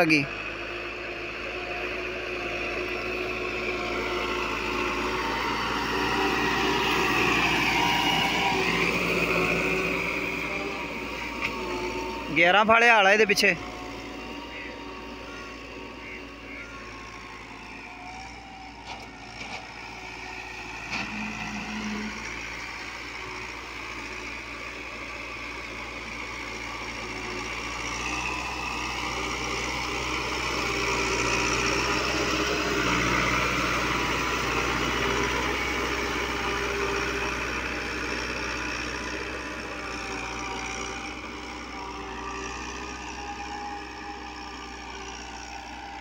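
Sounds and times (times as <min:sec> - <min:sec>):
tractor diesel engine under load: 0:00.0 - 0:46.0.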